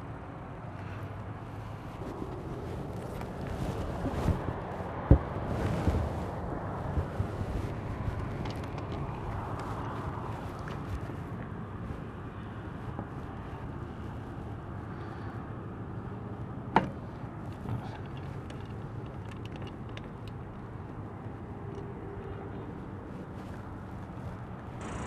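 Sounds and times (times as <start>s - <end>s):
outdoor background rumble: 0.0s - 25.0s.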